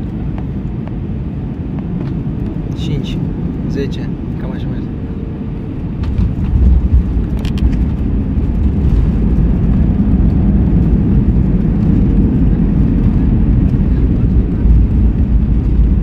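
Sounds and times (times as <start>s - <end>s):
jet cabin rumble on runway: 0.0s - 16.0s.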